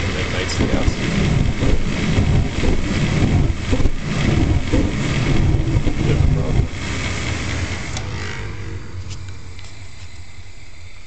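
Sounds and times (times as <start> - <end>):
gas furnace burners rumbling: 0.0 - 11.0.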